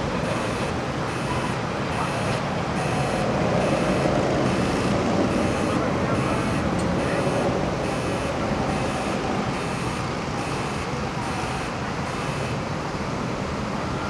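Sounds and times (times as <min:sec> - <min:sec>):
electronic warning beeper: 0:00.0 - 0:12.6
machinery rumble: 0:00.0 - 0:14.0
wind: 0:00.0 - 0:14.0.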